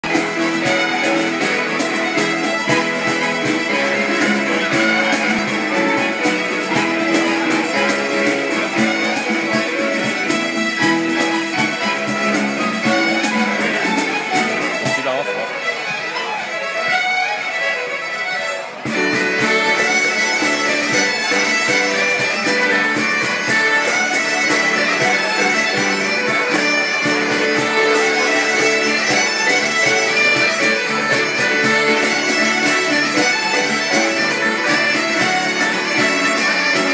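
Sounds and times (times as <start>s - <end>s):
bagpipes playing over drones: 0.0s - 36.9s.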